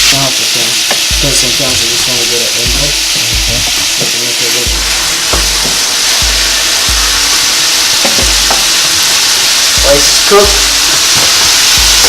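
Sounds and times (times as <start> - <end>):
background music with beat: 0.0 - 12.0
chicken sizzling in hot oil: 0.0 - 12.0.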